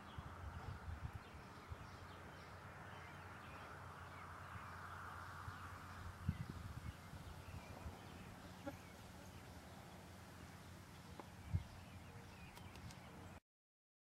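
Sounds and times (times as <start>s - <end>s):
faint bird calls: 1.9s - 13.4s.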